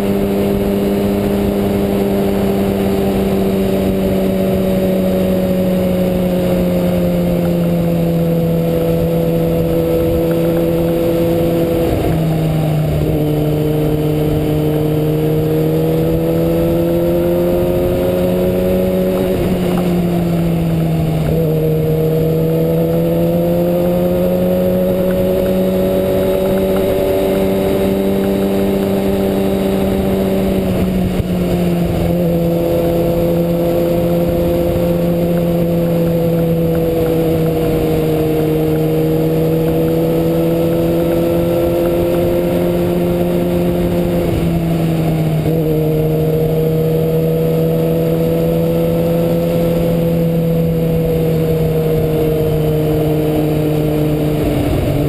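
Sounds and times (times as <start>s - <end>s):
motorcycle engine at high revs: 0.0s - 55.0s
wind noise: 0.0s - 55.0s.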